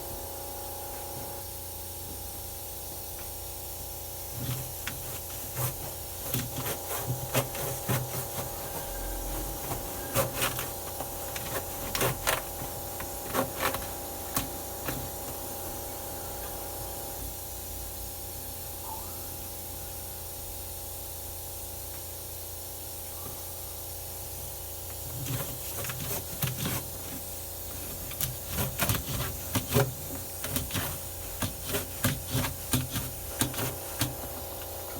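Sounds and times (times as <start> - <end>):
steady hum: 0.0 - 34.9.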